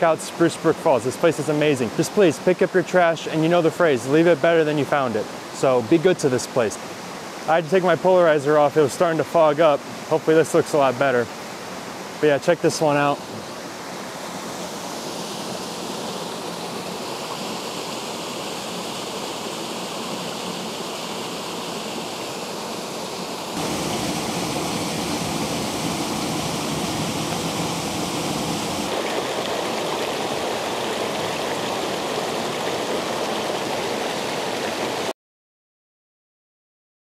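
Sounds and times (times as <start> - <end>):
waterfall rushing into pool: 0.0 - 35.1.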